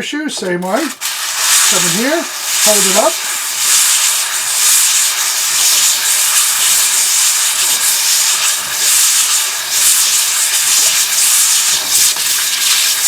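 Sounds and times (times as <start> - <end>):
brake shoe sanding hiss: 0.0 - 13.0.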